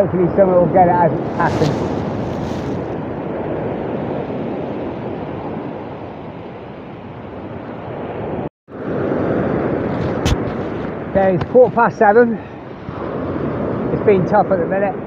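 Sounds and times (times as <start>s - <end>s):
wind buffeting microphone: 0.0s - 15.0s
breaking surf: 0.1s - 15.0s.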